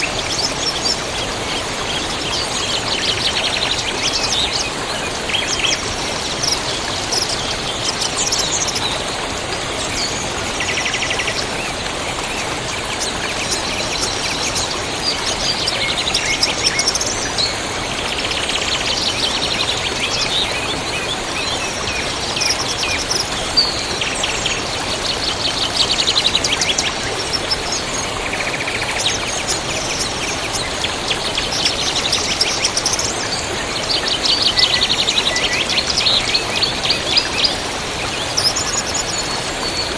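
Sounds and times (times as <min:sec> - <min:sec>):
river rushing: 0:00.0 - 0:39.9
songbirds chirping and trilling: 0:00.0 - 0:39.9.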